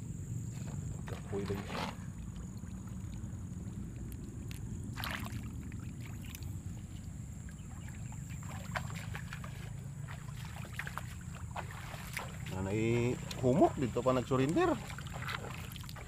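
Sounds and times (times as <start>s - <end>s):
steady low rumble: 0.0s - 16.0s
hands and feet in wet mud: 0.6s - 16.0s.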